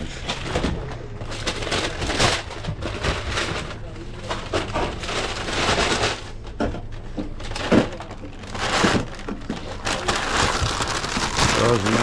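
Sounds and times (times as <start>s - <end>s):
paper bag rustling: 0.0s - 6.5s, 7.2s - 12.0s.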